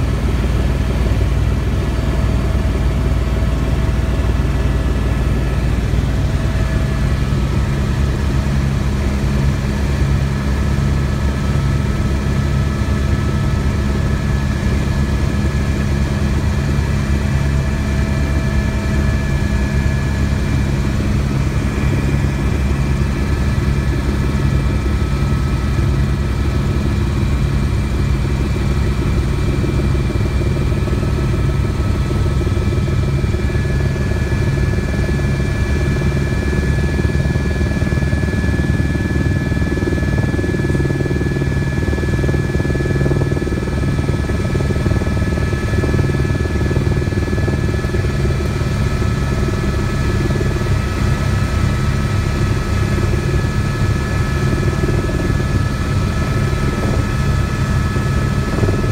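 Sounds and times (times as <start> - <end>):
helicopter rotor beat: 0.0 - 58.9
high turbine whine: 0.0 - 58.9.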